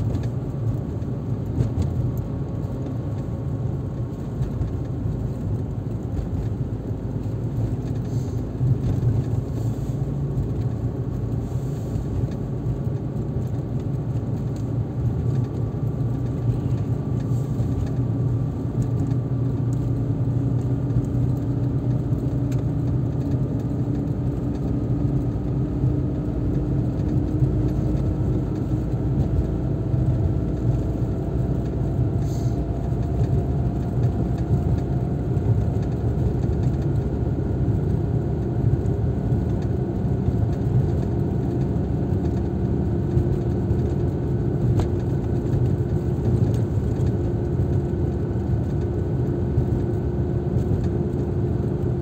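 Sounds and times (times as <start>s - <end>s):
car engine: 0.0s - 52.0s
tyre noise on road: 0.0s - 52.0s.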